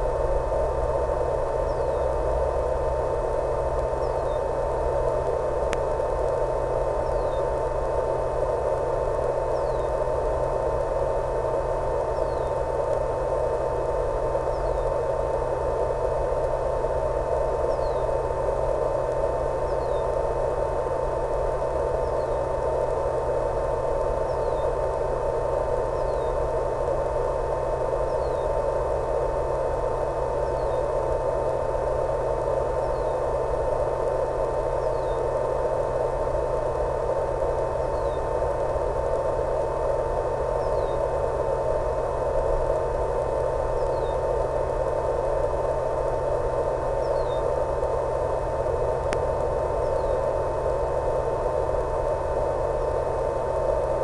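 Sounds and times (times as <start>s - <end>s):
static hiss with hum: 0.0s - 54.0s.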